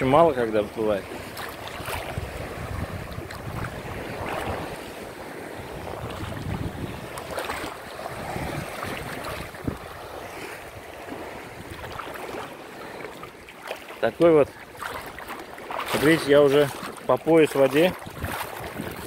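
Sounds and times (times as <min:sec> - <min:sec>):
wind buffeting microphone: 0:00.0 - 0:12.6, 0:14.2 - 0:19.0
light water splashes: 0:00.0 - 0:19.0
sea water sloshing and lapping: 0:00.0 - 0:19.0.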